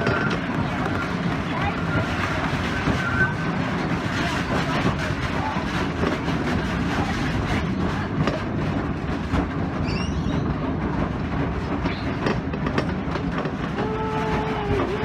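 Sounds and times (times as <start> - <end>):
roller coaster rumbling and rattling: 0.0 - 15.0
wheels clicking over track joints: 0.0 - 15.0.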